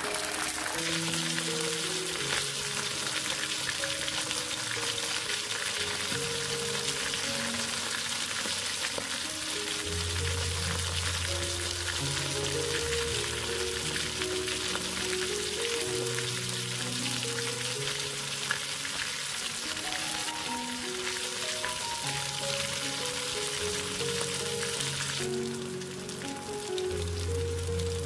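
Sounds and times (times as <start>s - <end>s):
fish deep-frying in hot oil: 0.0s - 28.0s.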